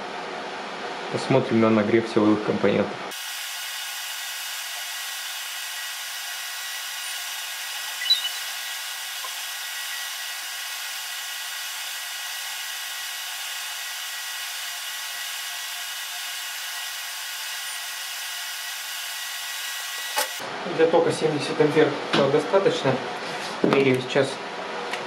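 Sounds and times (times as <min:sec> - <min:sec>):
cooling fan whirring: 0:00.0 - 0:25.0.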